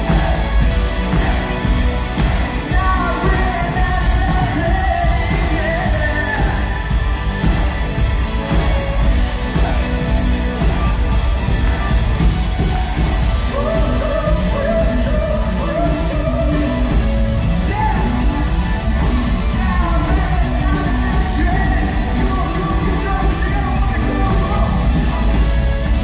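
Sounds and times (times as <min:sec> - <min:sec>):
lead vocal singing: 0:00.0 - 0:12.0, 0:13.2 - 0:26.0
live pop-rock band playing: 0:00.0 - 0:26.0.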